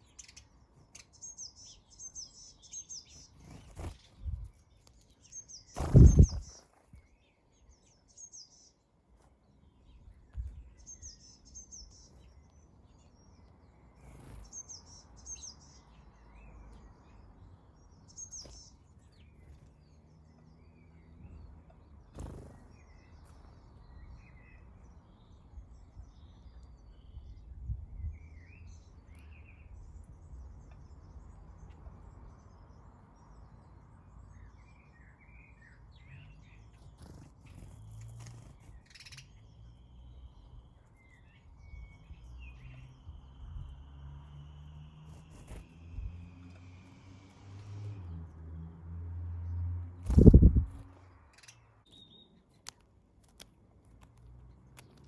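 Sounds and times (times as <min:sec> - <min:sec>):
birds chirping: 0:00.0 - 0:48.2, 0:49.5 - 0:55.0.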